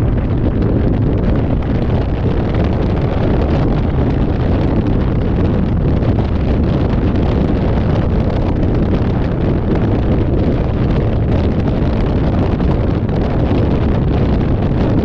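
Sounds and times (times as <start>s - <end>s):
vehicle rumble on road: 0.0s - 15.0s
wind buffeting microphone: 0.0s - 15.0s.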